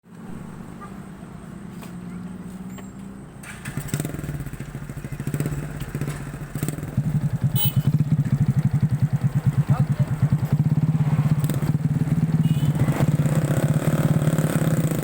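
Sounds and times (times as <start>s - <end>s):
motorcycle engine revving: 0.1s - 15.0s.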